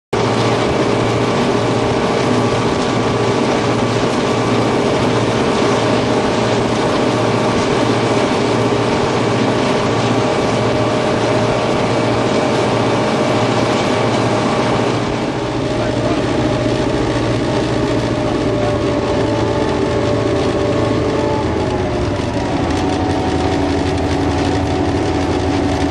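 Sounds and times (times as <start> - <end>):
diesel locomotive engine droning: 0.2 - 25.9
mechanical clatter: 0.2 - 25.9.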